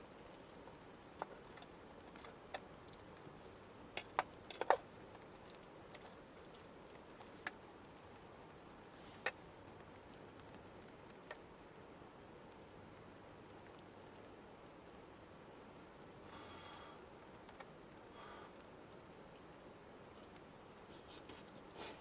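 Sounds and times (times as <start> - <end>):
faint hiss: 0.0 - 22.0
wood fire crackling: 0.0 - 22.0.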